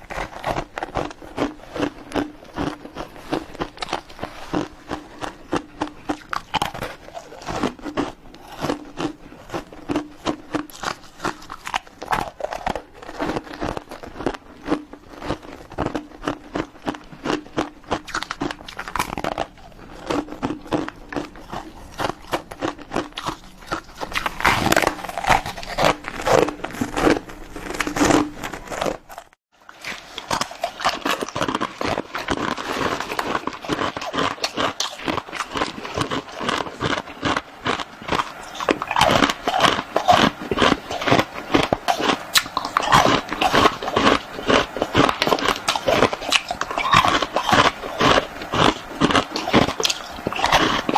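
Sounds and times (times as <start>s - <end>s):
chewing and crunching ice: 0.0s - 50.9s.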